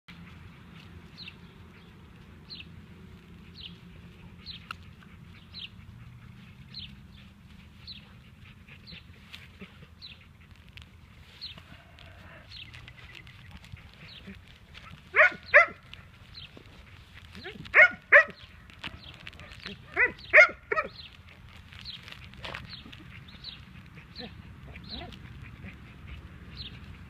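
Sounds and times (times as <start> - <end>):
outdoor background rumble: 0.1 - 27.0.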